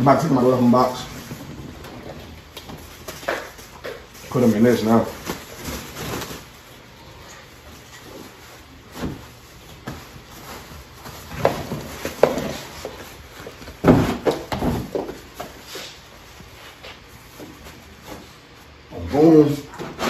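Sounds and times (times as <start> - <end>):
plastic pads rustling and crinkling: 0.0 - 19.5.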